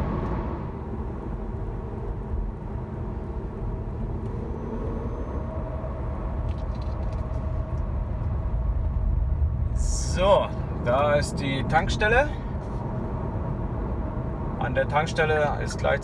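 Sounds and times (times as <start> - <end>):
road and tyre noise in car cabin: 0.0 - 16.0.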